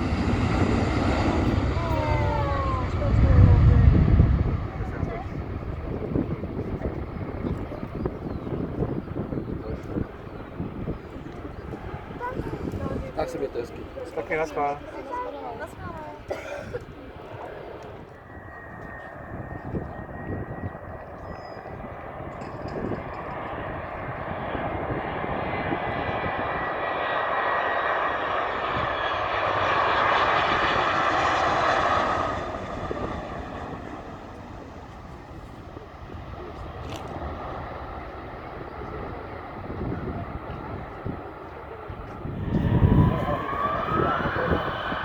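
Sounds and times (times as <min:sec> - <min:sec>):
jet airliner passing by: 0:00.0 - 0:45.0
thin engine whine: 0:00.0 - 0:45.0.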